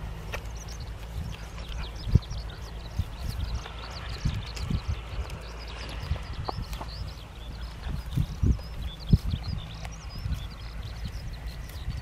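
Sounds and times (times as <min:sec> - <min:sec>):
birds chirping: 0:00.0 - 0:12.0
dogs chewing plants: 0:00.0 - 0:12.0.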